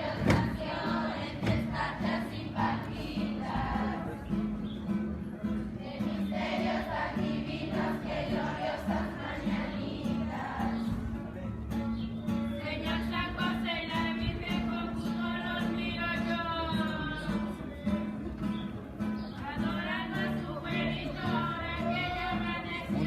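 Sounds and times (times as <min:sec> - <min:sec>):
guitar: 0:00.0 - 0:23.0.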